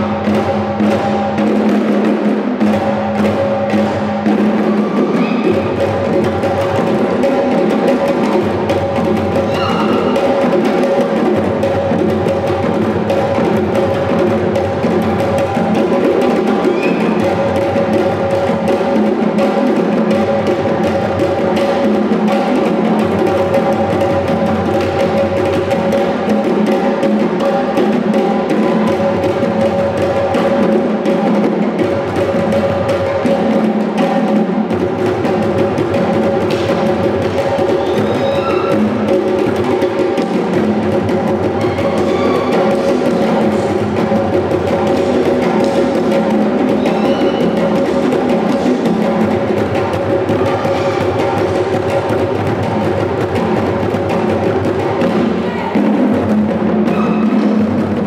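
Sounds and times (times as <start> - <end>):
barrel drums struck with sticks: 0.0 - 58.0
hand drums playing rhythm: 0.0 - 58.0.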